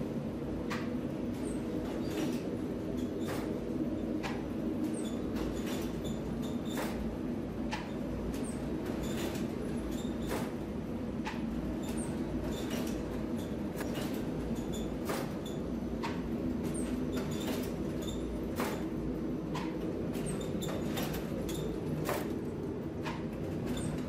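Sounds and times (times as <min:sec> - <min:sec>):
machinery humming: 0:00.0 - 0:24.0
machine clicks with squeaks: 0:00.6 - 0:24.0.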